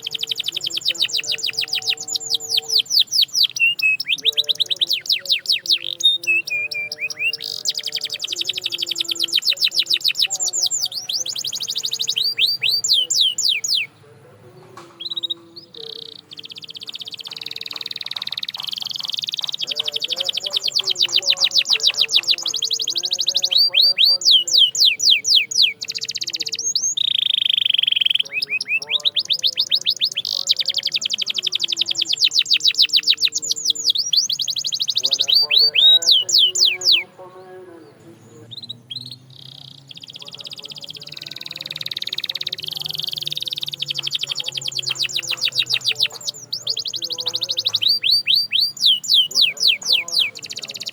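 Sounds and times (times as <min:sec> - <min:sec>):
canary trilling song: 0:00.0 - 0:50.9.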